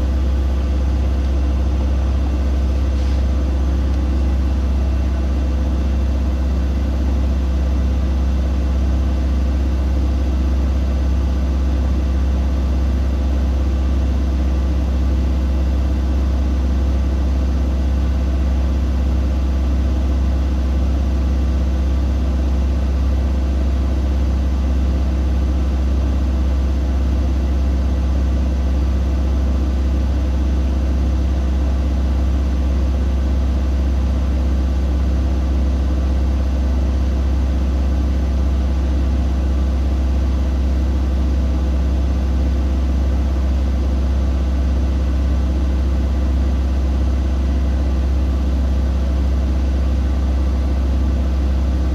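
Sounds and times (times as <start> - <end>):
washing machine humming: 0.0 - 51.9.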